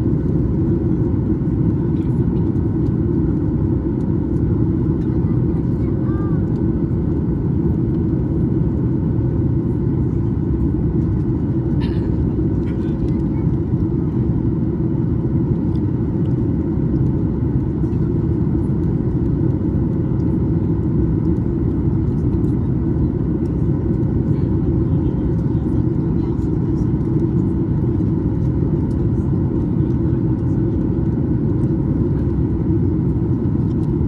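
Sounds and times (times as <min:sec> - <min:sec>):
airliner cabin noise: 0:00.0 - 0:34.0
faint steady hums: 0:00.0 - 0:34.0.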